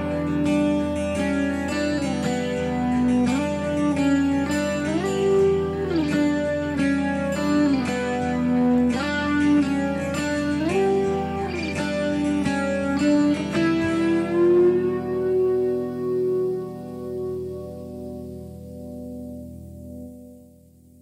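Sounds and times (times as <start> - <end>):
sliding guitar music: 0.0 - 21.0.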